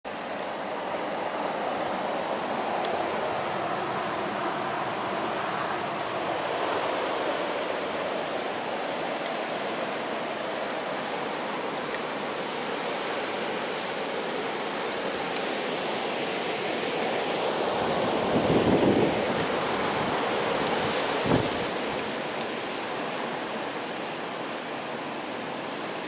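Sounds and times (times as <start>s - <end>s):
blizzard winds blowing hard: 0.1s - 26.0s.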